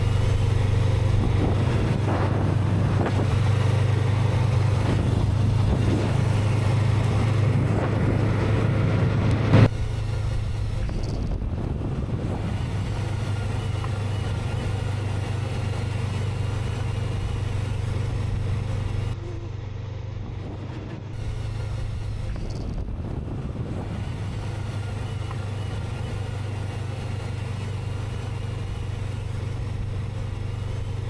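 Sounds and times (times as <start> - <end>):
motorcycle engine drone: 0.0 - 31.0
wind and road noise: 0.0 - 31.0.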